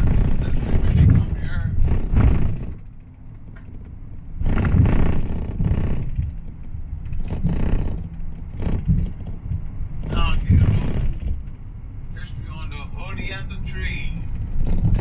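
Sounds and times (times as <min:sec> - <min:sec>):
minibus engine and tyre rumble: 0:00.0 - 0:15.0.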